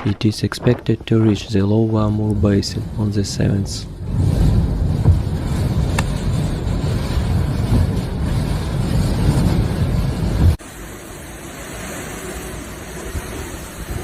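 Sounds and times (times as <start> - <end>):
hissy wind: 0.0 - 14.0
strong wind buffeting microphone: 0.0 - 14.0.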